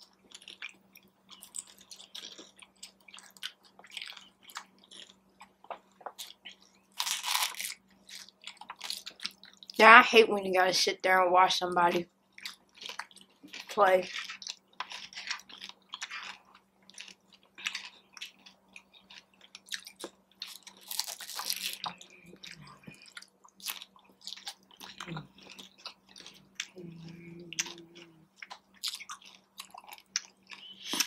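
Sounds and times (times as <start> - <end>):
chewing crunchy taco shells: 0.0 - 9.8, 12.0 - 31.0.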